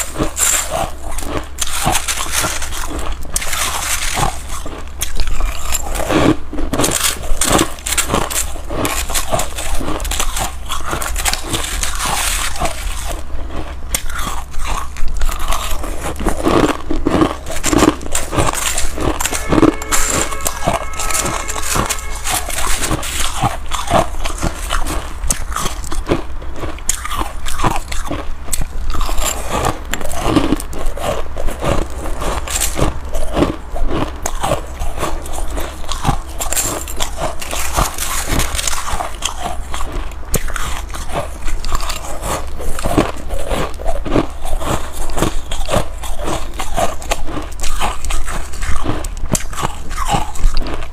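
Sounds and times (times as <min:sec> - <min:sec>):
chewing icy frost: 0:00.0 - 0:50.9.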